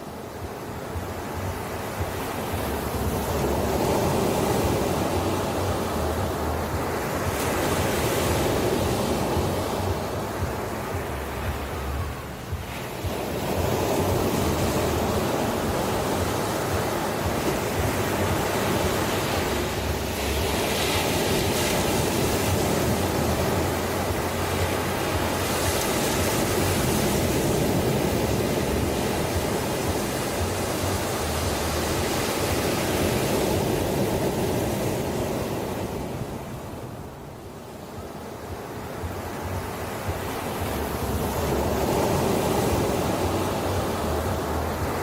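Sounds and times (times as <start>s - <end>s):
ocean surf washing ashore: 0.0s - 45.0s.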